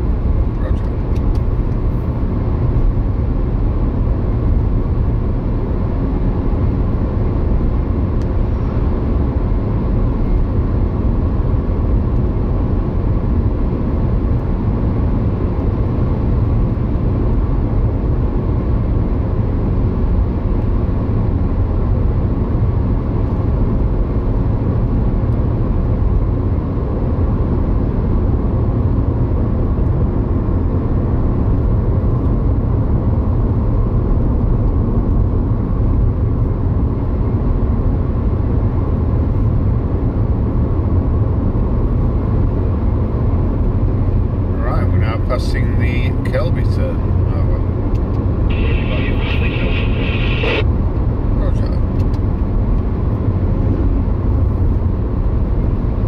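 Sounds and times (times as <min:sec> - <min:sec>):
car interior road and engine noise: 0:00.0 - 0:56.0.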